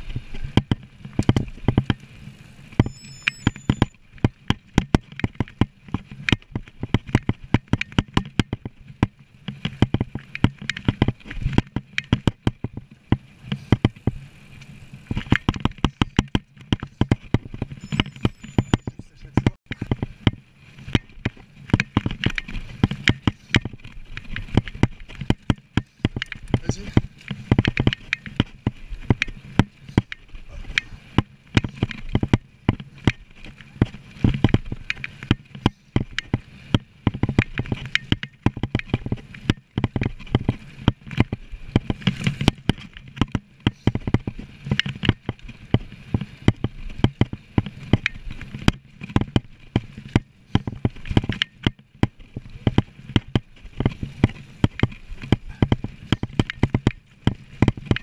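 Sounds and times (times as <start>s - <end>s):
bike clattering over bumps: 0.3s - 58.0s.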